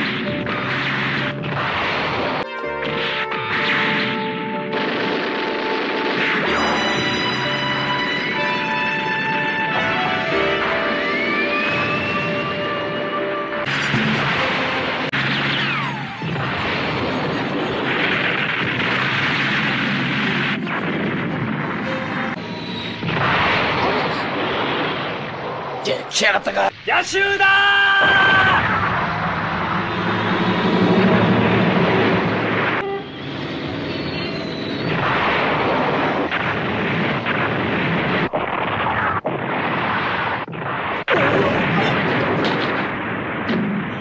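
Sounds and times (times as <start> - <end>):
cartoon explosion blasts: 0.0 - 26.9, 27.8 - 44.0.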